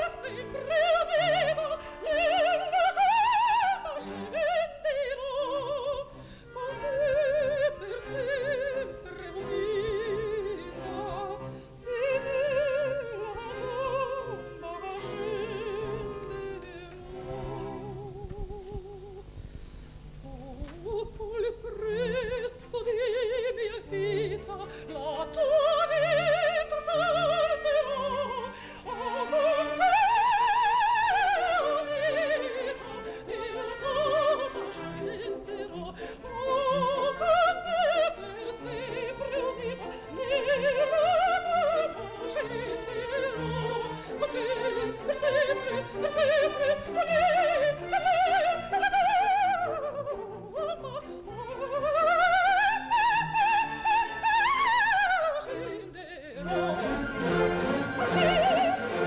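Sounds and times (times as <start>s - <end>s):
symphony orchestra: 0.0s - 18.2s, 20.8s - 59.0s
operatic soprano singing: 0.0s - 19.3s, 20.2s - 59.0s.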